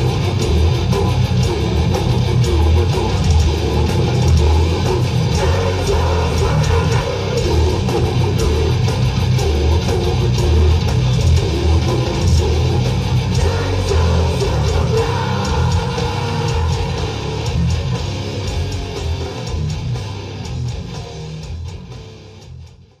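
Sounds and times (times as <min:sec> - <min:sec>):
death metal band playing live: 0:00.0 - 0:23.0.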